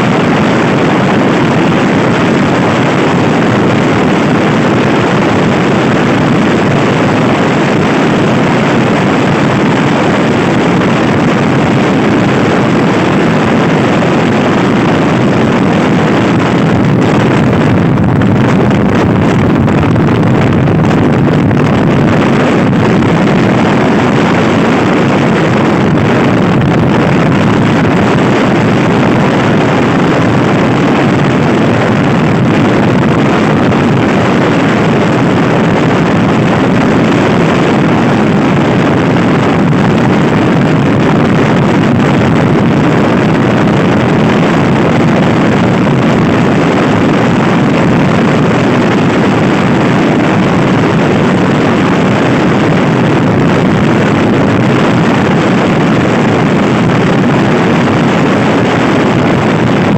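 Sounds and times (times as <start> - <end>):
scooter engine drone: 0.0 - 59.9
wind rush on microphone: 0.0 - 59.9.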